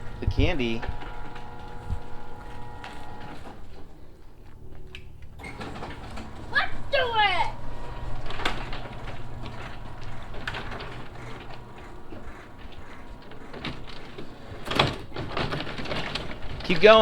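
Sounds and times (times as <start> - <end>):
garage door knocks and rattles: 0.0 - 3.7, 5.4 - 17.0
garage door motor hum: 0.0 - 17.0.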